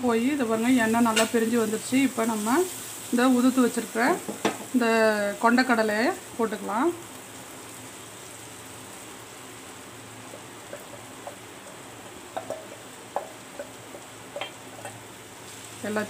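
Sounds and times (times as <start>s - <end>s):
faint frying sizzle: 0.0s - 16.0s.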